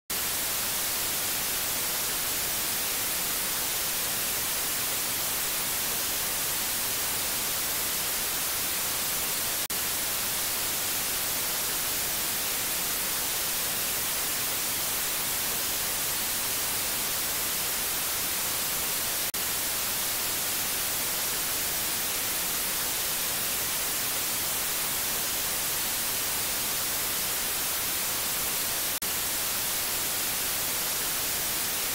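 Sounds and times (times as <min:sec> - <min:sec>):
white noise hiss: 0:00.1 - 0:31.9.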